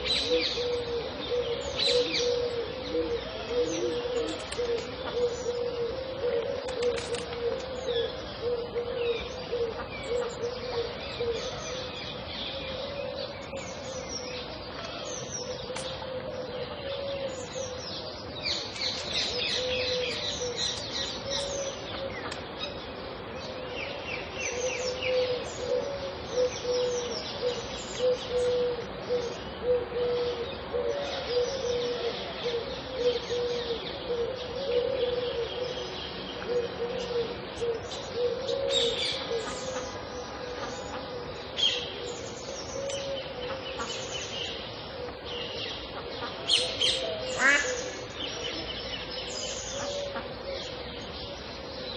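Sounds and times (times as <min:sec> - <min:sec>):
birds chirping and trilling: 0:00.0 - 0:51.9
low repeated bird call: 0:00.0 - 0:51.9.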